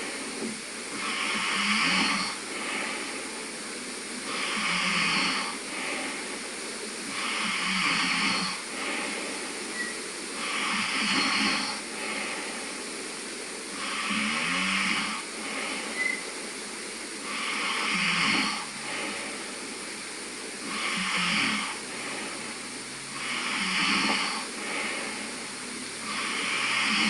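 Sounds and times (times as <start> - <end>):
man snoring: 0.0 - 3.4, 4.2 - 6.4, 7.0 - 12.8, 13.7 - 16.1, 17.2 - 19.8, 20.5 - 27.0.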